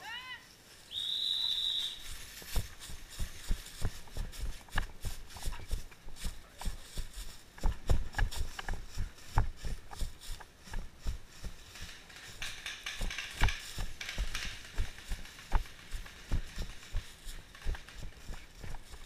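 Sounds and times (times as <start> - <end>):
footsteps through dry leaves: 0.0 - 19.0
leaf rustling: 0.0 - 19.0.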